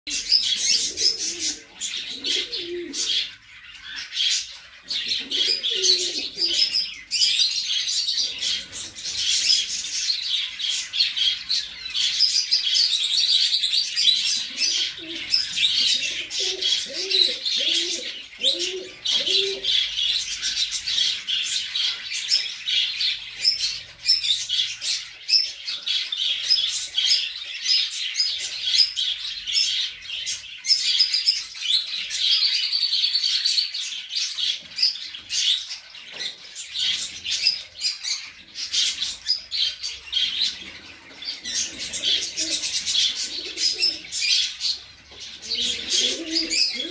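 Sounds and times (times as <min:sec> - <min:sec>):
pigeons cooing: 0:00.1 - 0:30.6, 0:34.1 - 0:46.9
small birds chirping: 0:00.1 - 0:46.9.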